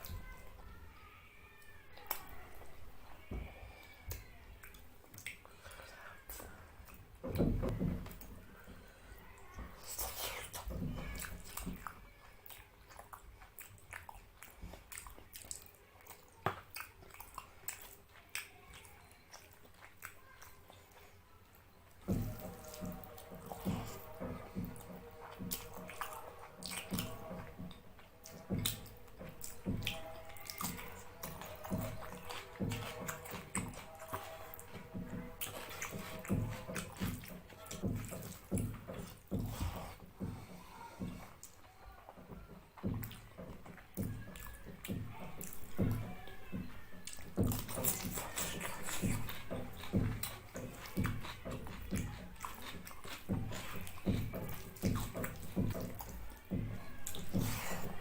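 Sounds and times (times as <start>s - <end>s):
wet eating and chewing: 0.0s - 58.0s.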